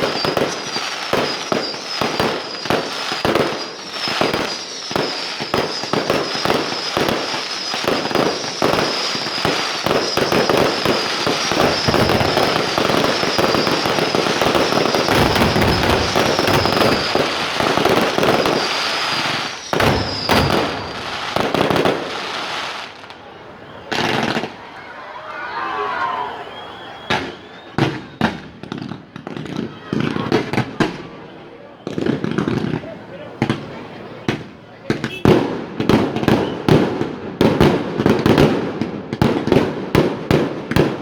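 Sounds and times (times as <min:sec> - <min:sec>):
fireworks bangs and crackling: 0:00.0 - 0:25.0, 0:26.1 - 0:41.0
fireworks high whistle: 0:00.0 - 0:32.8, 0:35.0 - 0:37.0.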